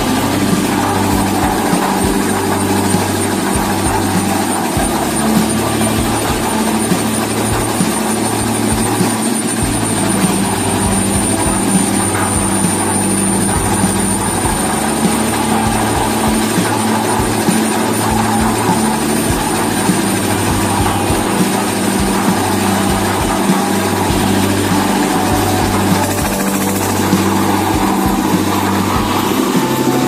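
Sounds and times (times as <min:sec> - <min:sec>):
concrete mixer running: 0:00.0 - 0:30.0.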